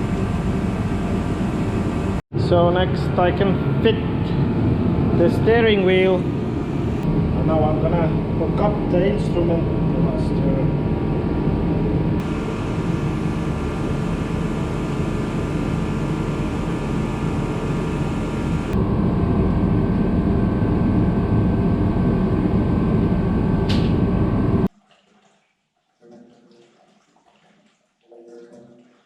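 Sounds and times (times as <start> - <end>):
fan whooshing hum: 0.0 - 24.7.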